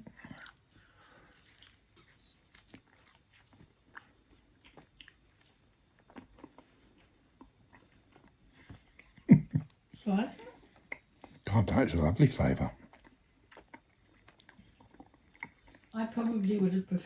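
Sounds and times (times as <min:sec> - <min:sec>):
person chewing food: 0:00.0 - 0:10.0, 0:10.6 - 0:16.0.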